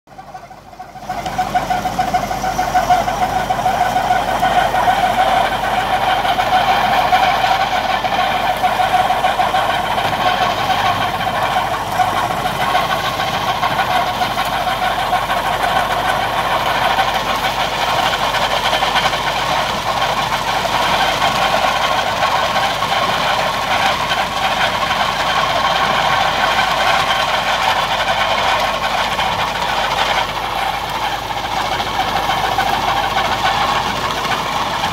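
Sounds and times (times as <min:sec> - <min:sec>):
manure spreader beaters: 0:00.1 - 0:34.9
tractor engine running: 0:00.1 - 0:34.9.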